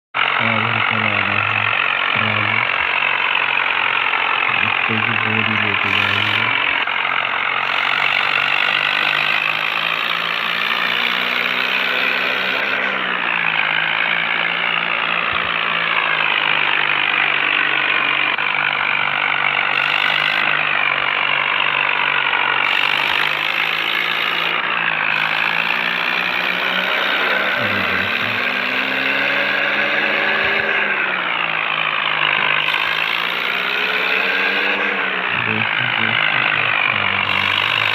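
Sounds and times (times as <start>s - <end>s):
tractor diesel engine revving: 0.2s - 37.9s.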